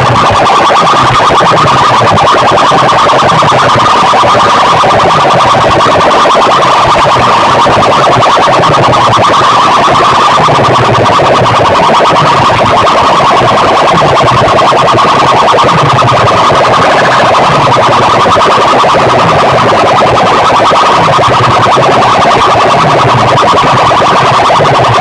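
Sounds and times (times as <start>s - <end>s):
electronic siren tone music: 0.0s - 25.0s.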